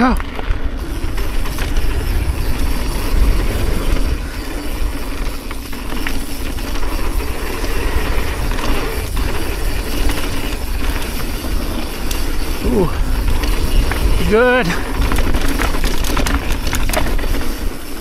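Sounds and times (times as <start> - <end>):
bike tyre roar: 0.0 - 18.0
wind rumble on microphone: 0.2 - 18.0
frame and chain rattle: 0.7 - 18.0.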